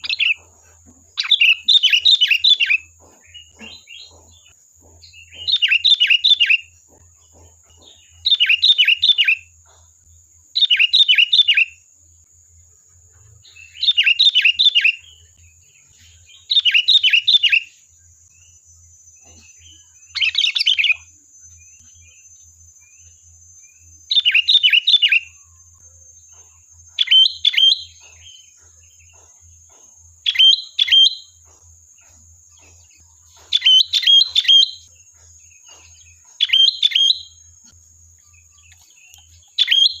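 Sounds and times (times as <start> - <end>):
bulbul singing: 0.0 - 40.0.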